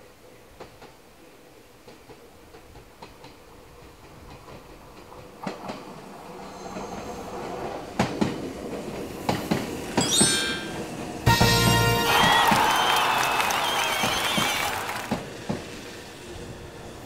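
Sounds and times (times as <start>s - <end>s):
electric train rumble: 0.2s - 17.0s.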